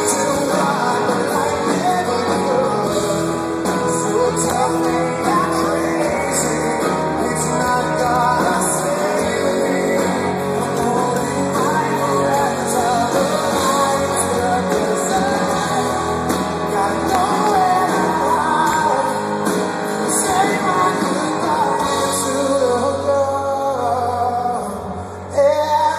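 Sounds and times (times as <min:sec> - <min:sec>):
drums: 0:00.0 - 0:25.9
electric guitars: 0:00.0 - 0:25.9
male lead vocal: 0:00.0 - 0:25.9.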